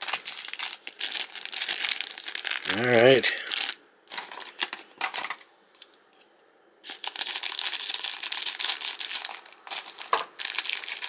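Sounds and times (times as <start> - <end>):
plastic wrapping crinkling: 0.0 - 6.0, 6.8 - 11.0.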